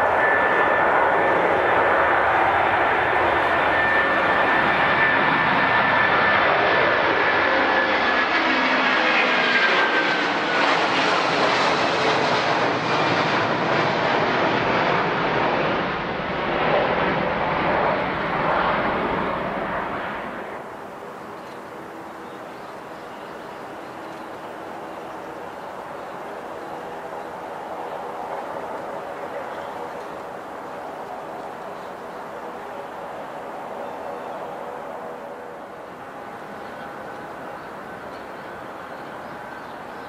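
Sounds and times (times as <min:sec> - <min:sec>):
jet airliner passing: 0:00.0 - 0:40.0.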